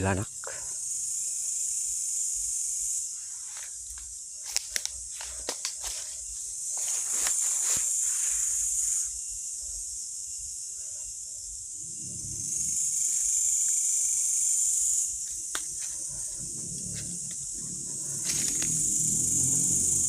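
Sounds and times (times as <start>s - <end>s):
insects shrilling: 0.0s - 20.0s.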